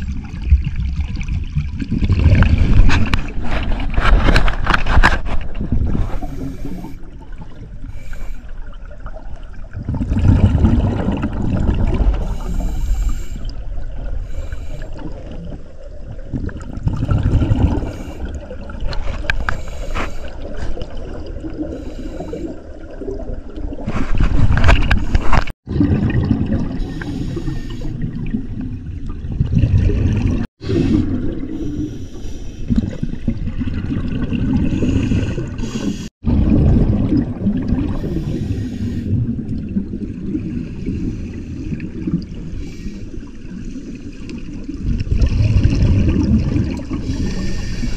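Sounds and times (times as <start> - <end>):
underwater regulator gurgle and bubbles: 0.0 - 47.9.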